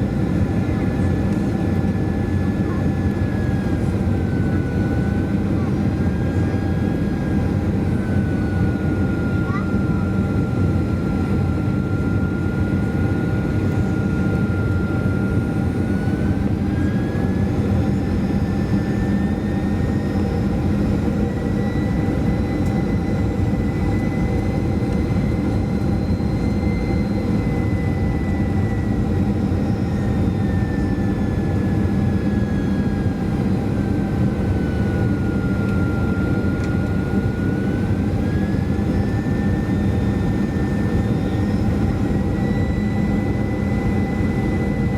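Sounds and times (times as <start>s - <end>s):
airflow and jet engine roar: 0.0s - 44.9s.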